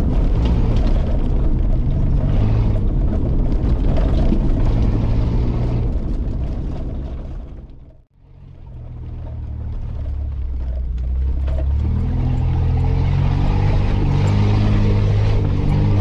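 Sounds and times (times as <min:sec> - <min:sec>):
car engine revving: 0:00.0 - 0:06.8, 0:08.2 - 0:16.0.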